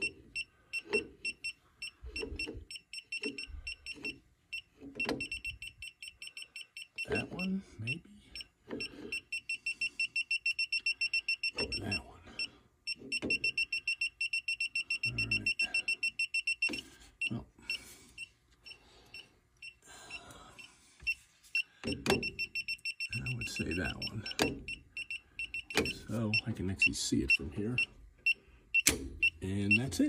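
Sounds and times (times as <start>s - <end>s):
rapid high beeps: 0.0s - 30.0s.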